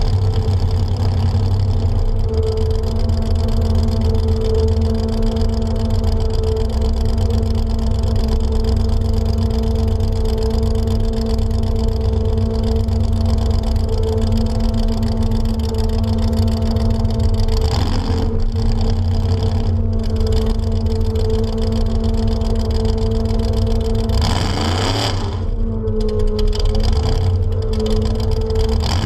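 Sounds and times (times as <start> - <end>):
pickup truck engine running: 0.0 - 29.0.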